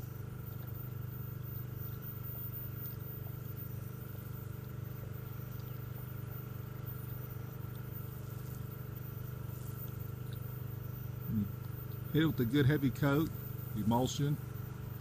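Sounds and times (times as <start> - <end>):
engine running with whine: 0.0 - 15.0.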